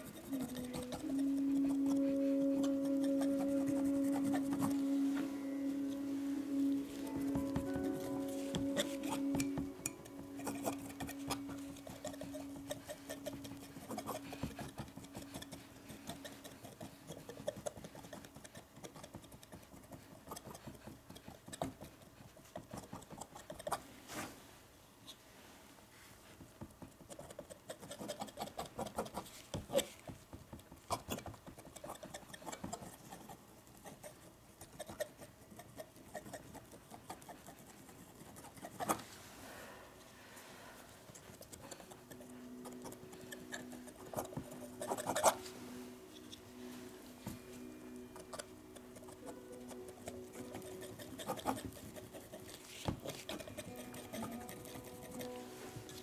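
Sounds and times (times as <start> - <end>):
palette knife scraping paint: 0.0 - 23.8, 30.9 - 39.2, 41.0 - 56.0.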